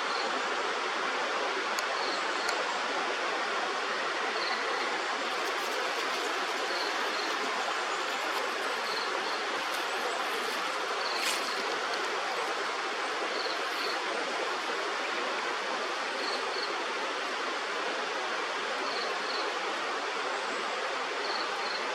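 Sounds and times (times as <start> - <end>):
river flowing: 0.0 - 21.9.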